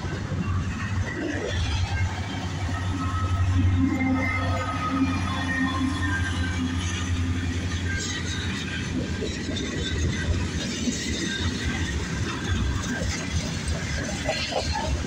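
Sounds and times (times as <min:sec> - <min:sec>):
freight train rumbling: 0:00.0 - 0:15.0
rail noise: 0:00.0 - 0:15.0.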